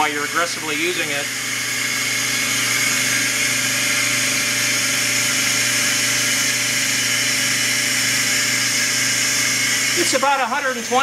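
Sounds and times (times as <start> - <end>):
pump humming: 0.0 - 11.0.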